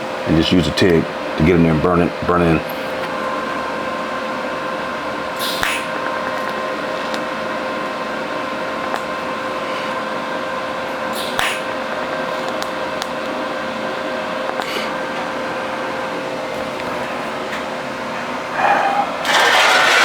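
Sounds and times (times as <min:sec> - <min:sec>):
welder electrical hum: 0:00.0 - 0:20.0.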